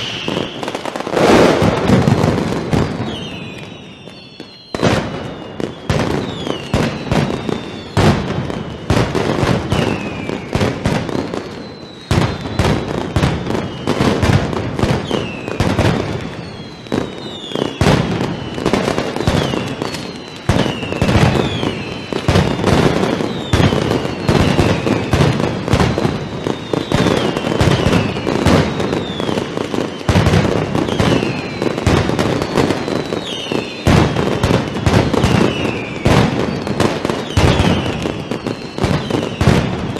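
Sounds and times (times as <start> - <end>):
firecracker bangs: 0.0 - 39.9
whistling rockets: 0.0 - 39.9.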